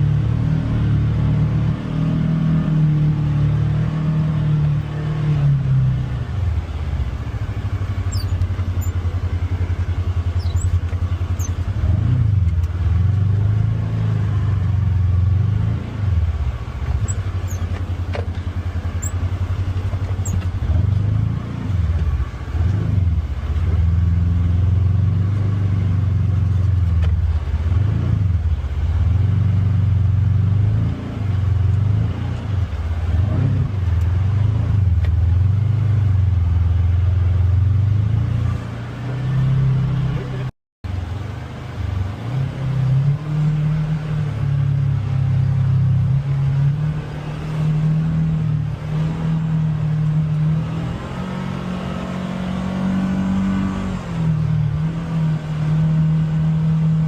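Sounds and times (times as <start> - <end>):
utility vehicle engine revving: 0.0 - 57.0.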